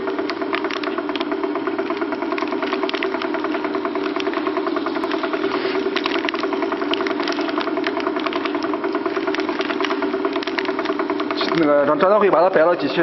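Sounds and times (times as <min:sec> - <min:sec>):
band sealer motor humming: 0:00.0 - 0:13.0
rattling ticks: 0:00.2 - 0:11.8.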